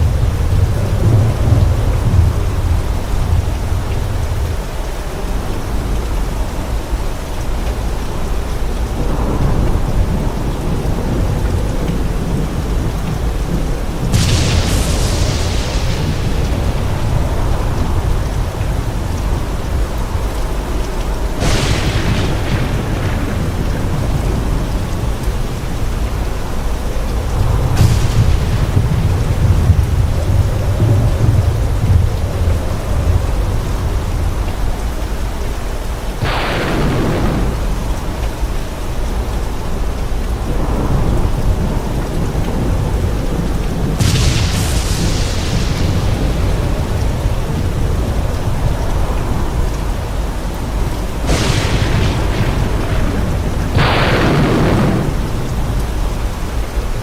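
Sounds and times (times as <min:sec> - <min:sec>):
crackling thunder: 0:00.0 - 0:57.0
heavy rain: 0:00.0 - 0:57.0
low rolling thunder: 0:00.0 - 0:57.0.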